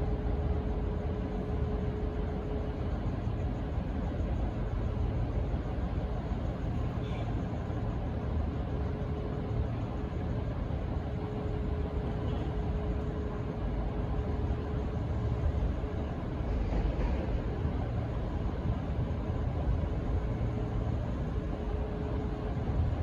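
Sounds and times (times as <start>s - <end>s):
diesel locomotive engine rumbling: 0.0s - 23.0s.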